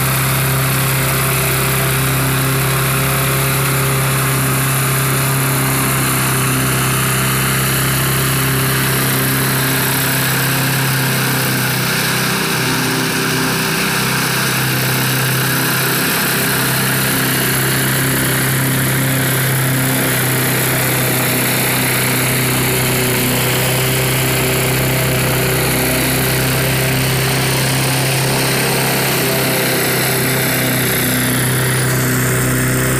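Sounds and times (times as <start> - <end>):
toy mower motor humming and whining: 0.0 - 32.9.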